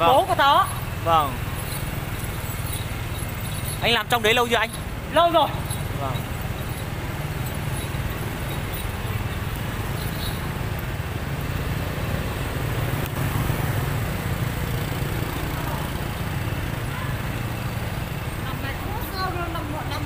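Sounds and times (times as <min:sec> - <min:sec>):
motorbikes going by: 0:00.0 - 0:20.0
steady low traffic rumble: 0:00.0 - 0:20.0.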